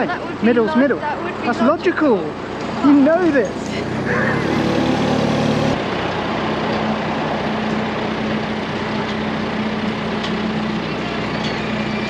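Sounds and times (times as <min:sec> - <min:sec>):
heavy vehicle engine running: 0:01.0 - 0:12.0.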